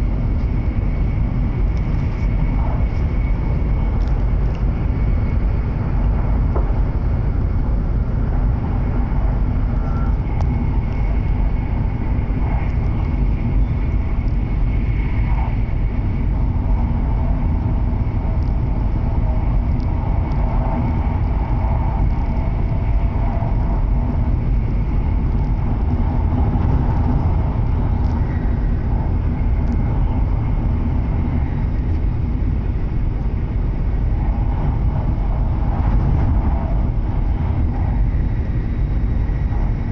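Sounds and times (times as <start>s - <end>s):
faint tonal hum: 0.0s - 39.9s
train cabin low rumble: 0.0s - 39.9s.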